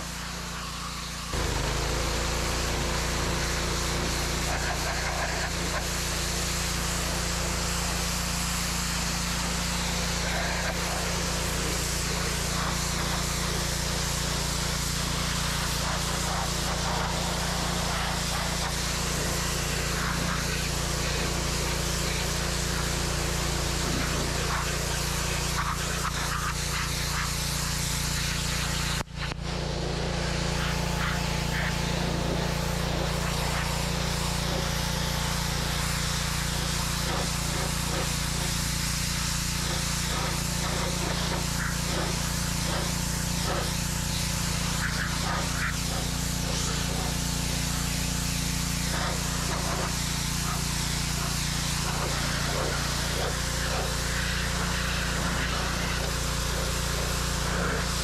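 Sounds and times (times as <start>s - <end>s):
high-pressure water jet hissing: 0.0s - 58.0s
pressure washer engine running: 0.0s - 58.0s.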